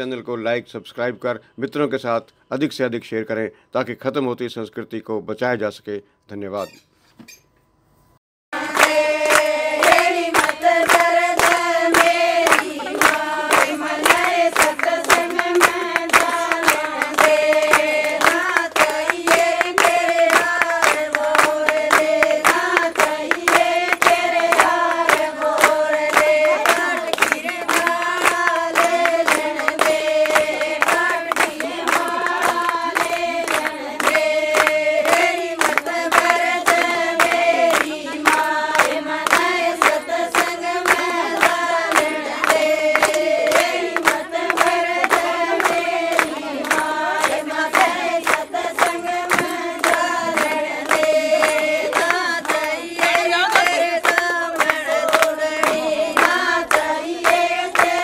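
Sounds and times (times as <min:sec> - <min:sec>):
hand-clapping: 0:08.6 - 0:58.0
women singing folk song: 0:08.6 - 0:58.0.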